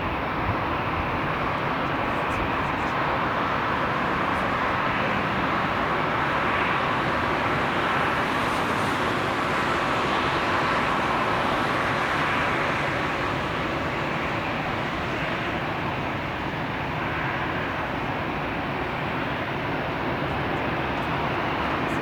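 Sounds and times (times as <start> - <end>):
jet airliner engines: 0.0 - 22.0.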